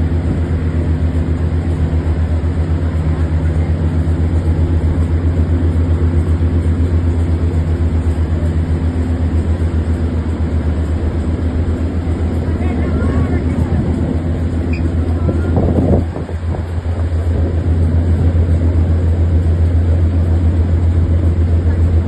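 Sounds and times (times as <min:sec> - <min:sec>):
boat diesel engine droning: 0:00.0 - 0:22.0.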